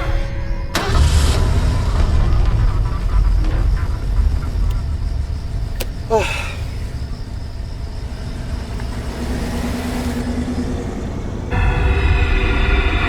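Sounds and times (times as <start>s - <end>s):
car engine rumbling: 0.7s - 13.0s.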